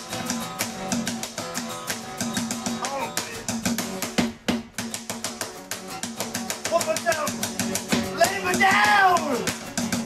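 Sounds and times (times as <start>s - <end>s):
strummed guitar: 0.0s - 10.0s.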